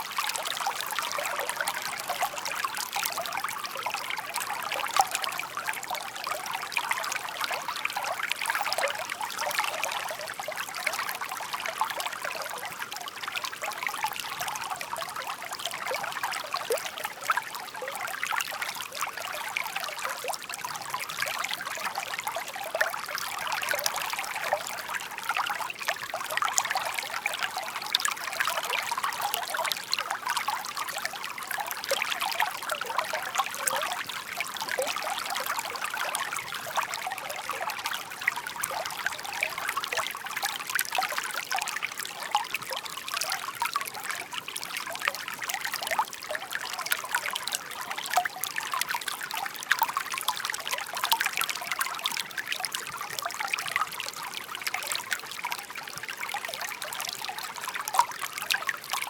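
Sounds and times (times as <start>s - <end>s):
brook water trickling over stones: 0.0s - 59.0s.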